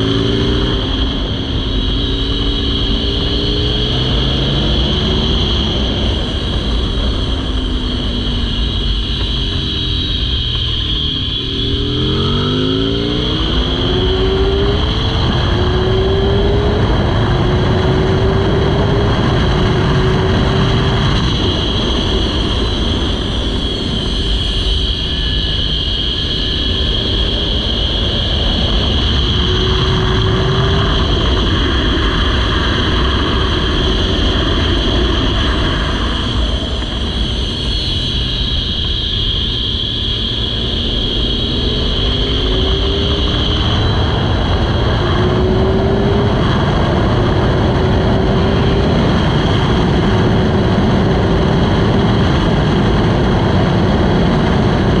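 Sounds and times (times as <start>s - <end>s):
motorcycle engine accelerating: 0.0s - 55.0s
wind rush on microphone: 0.0s - 55.0s.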